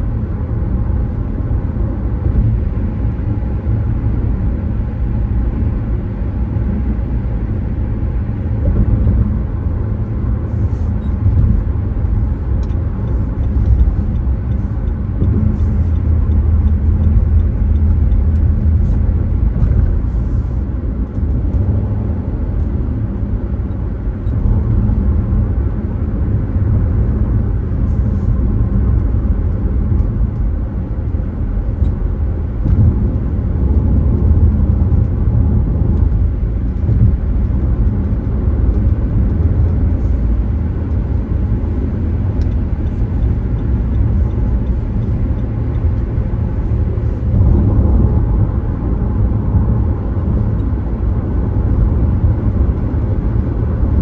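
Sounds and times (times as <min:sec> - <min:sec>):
car engine: 0:00.0 - 0:54.0
tyre and road noise: 0:00.1 - 0:54.0.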